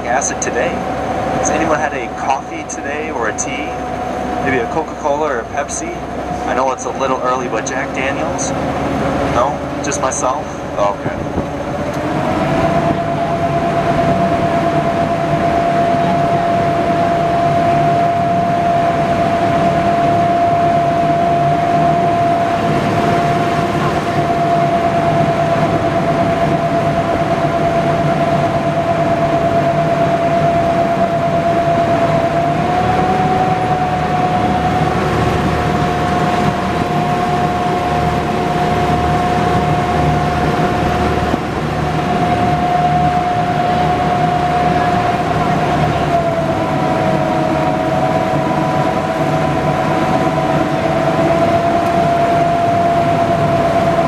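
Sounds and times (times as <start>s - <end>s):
boat engine droning: 0.0s - 54.0s
high whine: 0.0s - 54.0s.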